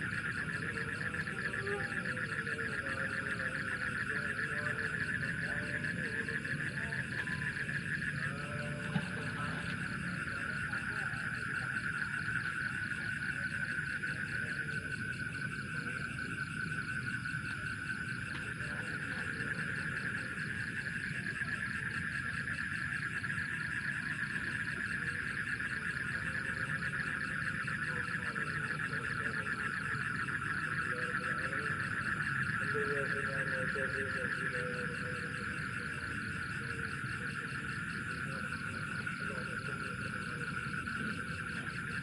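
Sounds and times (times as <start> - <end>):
frogs and insects trilling: 0.0 - 42.0.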